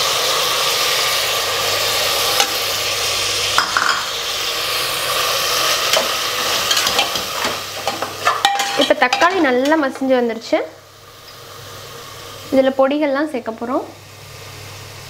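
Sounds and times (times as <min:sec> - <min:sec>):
tomatoes sizzling in hot oil: 0:00.0 - 0:15.0.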